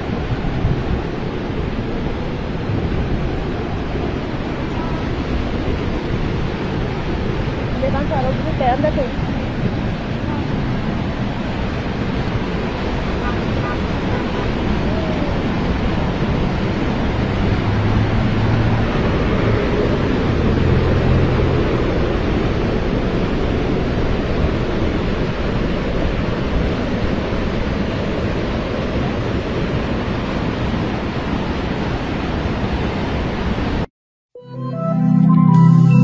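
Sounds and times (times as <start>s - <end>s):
floodwater rushing down street: 0.0s - 33.8s.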